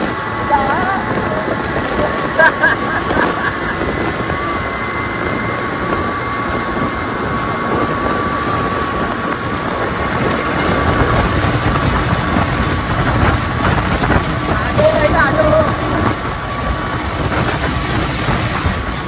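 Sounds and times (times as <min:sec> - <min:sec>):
motorcycle engines: 0:00.0 - 0:19.0
wind rushing on microphone: 0:00.0 - 0:19.0.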